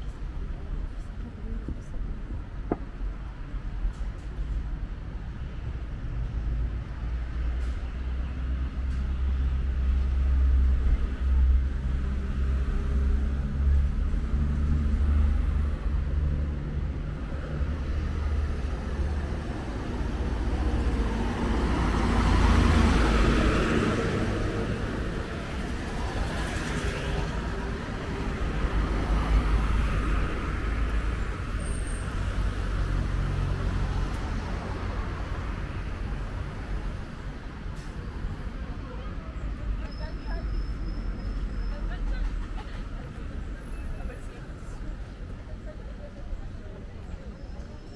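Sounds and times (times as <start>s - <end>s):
street traffic rumble: 0.0s - 47.9s.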